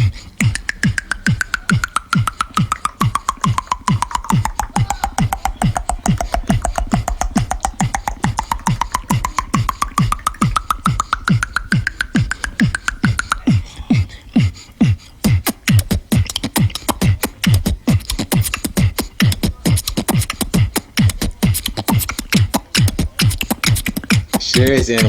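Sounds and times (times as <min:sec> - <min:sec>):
beatboxing hi-hat clicks: 0:00.0 - 0:25.0
beatboxing kick sounds: 0:00.0 - 0:25.0
rising vocal hum: 0:00.0 - 0:25.0.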